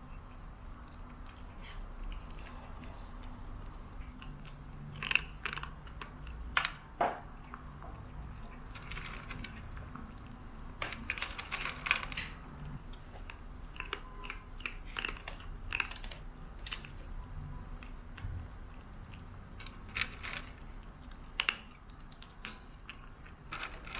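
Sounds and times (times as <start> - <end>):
cat chewing: 0.0 - 23.9.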